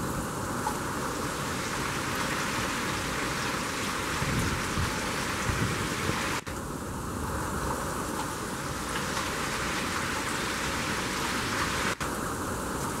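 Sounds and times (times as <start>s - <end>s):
heavy rain and wind: 0.0s - 13.0s.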